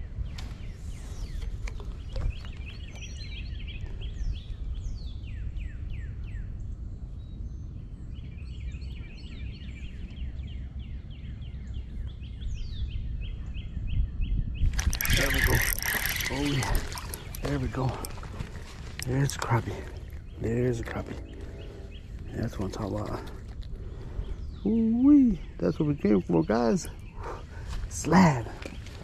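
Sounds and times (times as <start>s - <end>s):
birds singing: 0.0s - 29.0s
steady low rumble: 0.0s - 29.0s.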